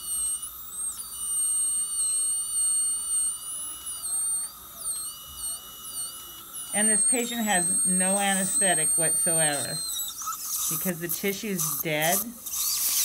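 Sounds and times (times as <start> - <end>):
wavering high whine: 0.0 - 13.0
high laser beep: 0.8 - 12.2.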